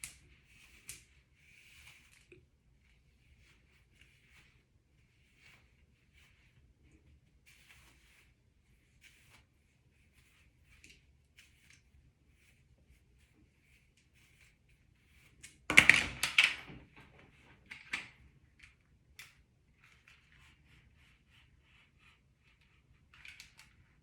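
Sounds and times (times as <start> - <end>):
faint rustling strokes: 0.0 - 15.7, 17.0 - 24.0.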